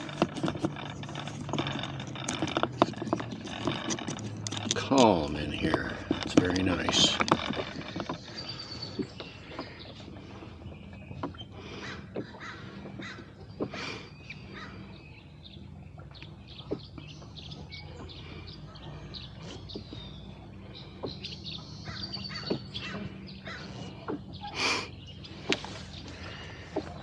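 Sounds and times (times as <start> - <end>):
birds calling and chirping: 0.0 - 27.0.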